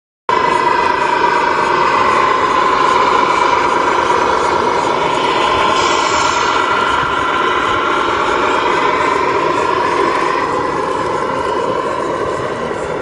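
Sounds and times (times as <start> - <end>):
model truck motor hum: 0.3 - 13.0.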